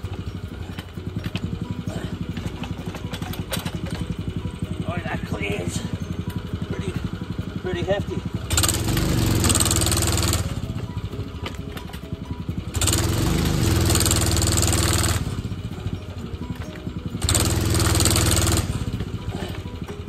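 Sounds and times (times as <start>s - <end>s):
gas engine running: 0.0s - 20.0s.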